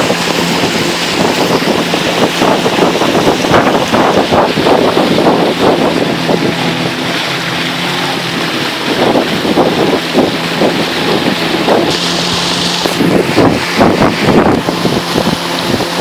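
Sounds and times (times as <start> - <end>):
boat motor running: 0.0 - 16.0
wind buffeting microphone: 0.0 - 16.0.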